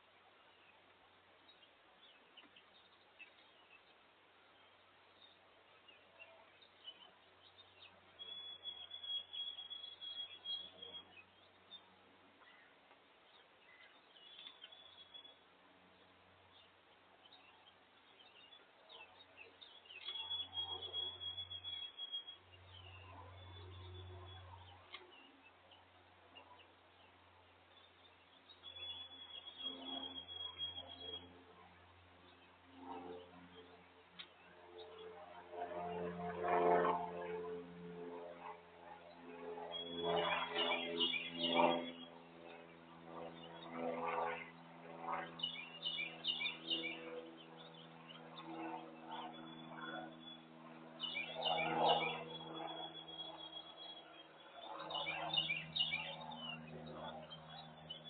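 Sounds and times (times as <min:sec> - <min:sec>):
faint birdsong chirps: 0:00.0 - 0:36.1, 0:39.1 - 0:58.0
low hum: 0:00.0 - 0:58.0.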